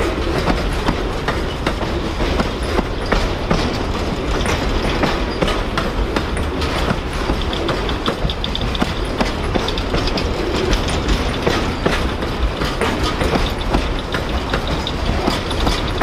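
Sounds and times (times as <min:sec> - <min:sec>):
train wheels rumbling on rail: 0:00.0 - 0:16.0
wheels clicking over rail joints: 0:00.0 - 0:16.0.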